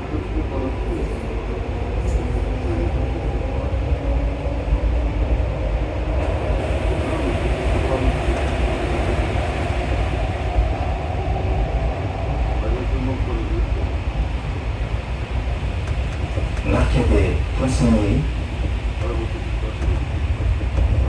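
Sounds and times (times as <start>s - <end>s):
metro train rumbling in tunnel: 0.0s - 21.0s.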